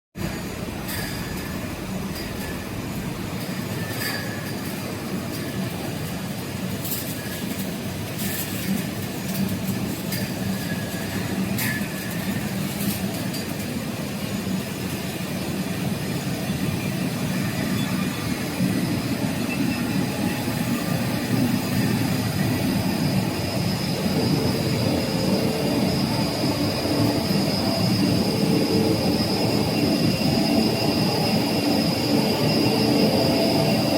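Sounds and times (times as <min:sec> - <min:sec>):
high machine whine: 0:00.2 - 0:33.9.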